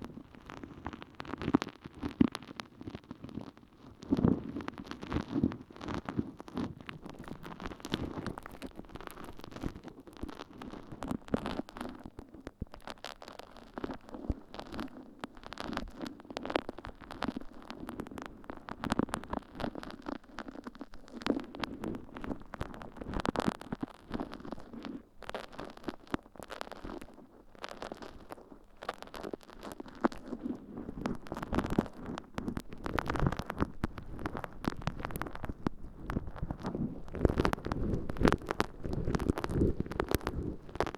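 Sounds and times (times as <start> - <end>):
wet sponge squishing and crackling: 0.4 - 40.9.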